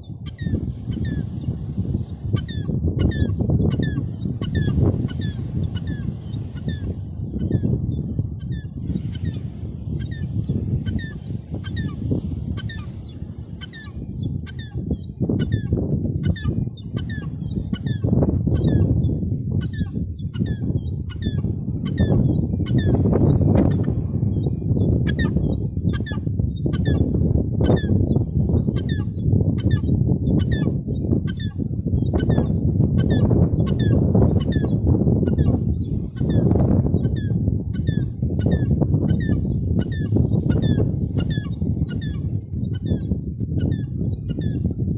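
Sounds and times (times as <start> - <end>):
gulls calling: 2.0 - 7.8, 8.4 - 43.0.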